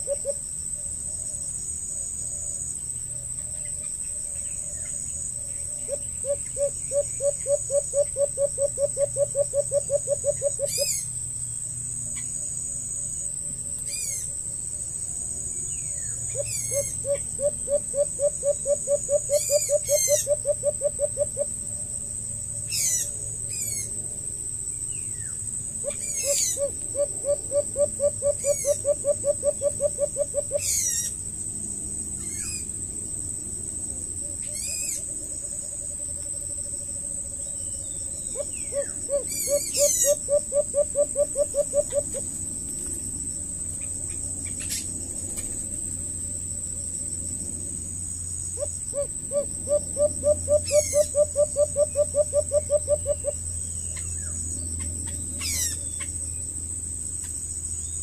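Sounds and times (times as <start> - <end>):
bird rapid low hooting: 0.0 - 11.3, 15.2 - 24.2, 24.9 - 31.3, 33.8 - 56.5
high insect drone: 0.0 - 58.0.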